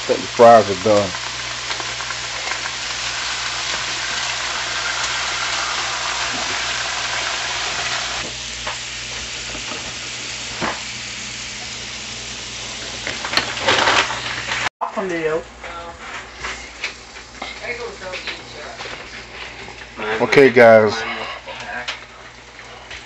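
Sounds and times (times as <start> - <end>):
fries sizzling in oil: 0.0 - 15.3, 16.2 - 23.0.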